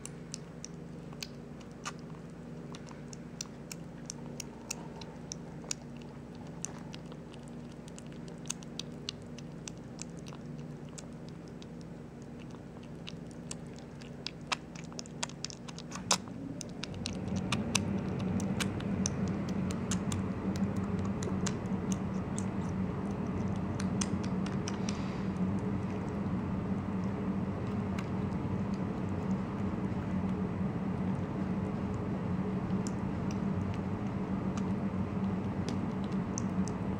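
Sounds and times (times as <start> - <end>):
kitten lapping and chewing food: 0.0 - 36.9
steady low hum: 0.0 - 36.9.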